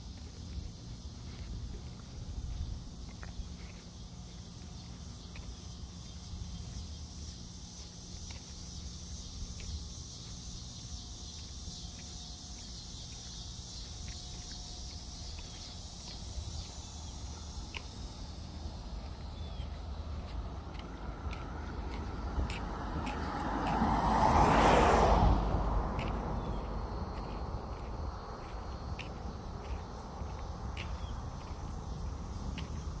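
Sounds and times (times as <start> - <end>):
footsteps on concrete: 0.0 - 24.3, 25.4 - 33.0
high-pitched insect chorus: 0.0 - 33.0.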